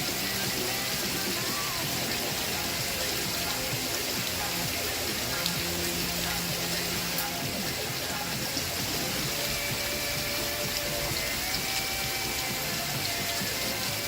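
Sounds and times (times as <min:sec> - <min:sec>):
faint background music: 0:00.0 - 0:14.0
steady rain: 0:00.0 - 0:14.0.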